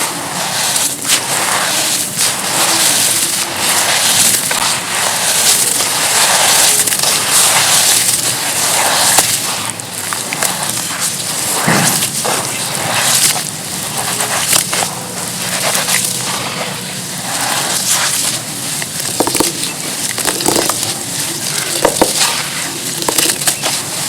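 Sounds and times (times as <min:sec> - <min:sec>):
charcoal crunching in water: 0:00.0 - 0:24.0.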